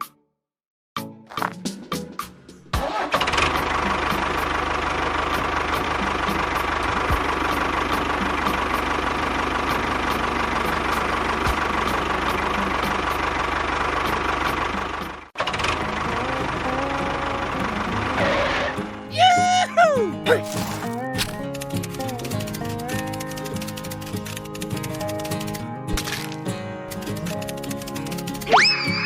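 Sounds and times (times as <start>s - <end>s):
small tractor engine running: 2.7s - 19.1s, 20.4s - 29.0s.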